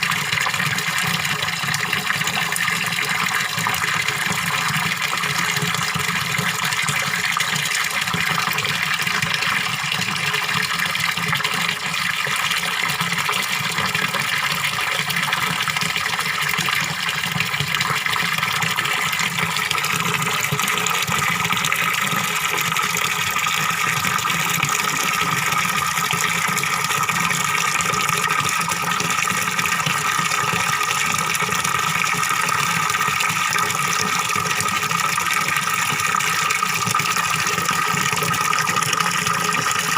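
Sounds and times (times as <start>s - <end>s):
small waterfall pouring into pond: 0.0s - 39.9s.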